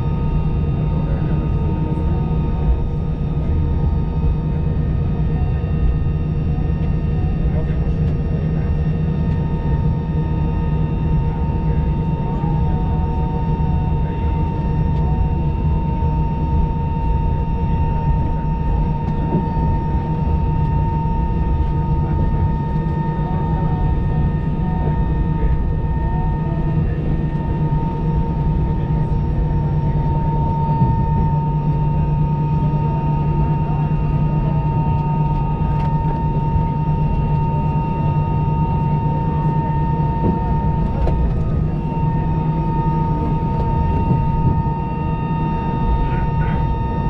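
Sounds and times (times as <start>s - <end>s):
jet engines idling in cabin: 0.0s - 47.0s.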